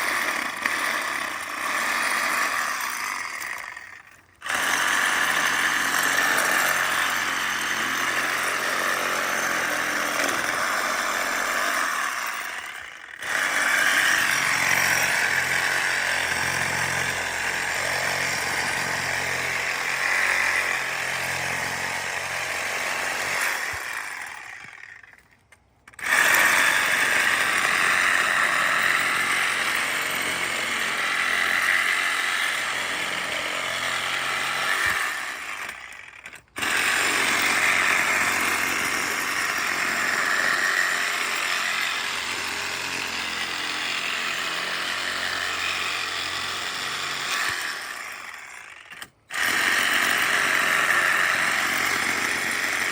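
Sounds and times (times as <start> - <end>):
reciprocating saw cutting branches: 0.0 - 52.9.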